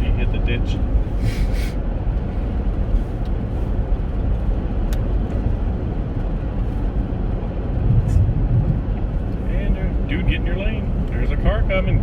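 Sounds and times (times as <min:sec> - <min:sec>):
road and engine noise in car cabin: 0:00.0 - 0:12.0.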